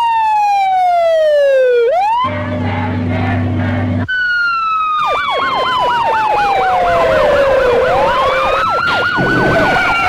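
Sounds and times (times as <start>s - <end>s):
siren yelp: 0.0s - 3.1s, 3.9s - 10.0s
wailing siren: 0.0s - 10.0s.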